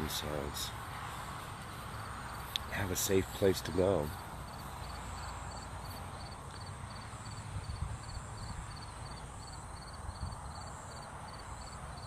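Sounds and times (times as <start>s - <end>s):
high insect trill: 0.0s - 12.0s
insects chirping: 0.0s - 12.0s
low outdoor rumble: 0.0s - 12.0s.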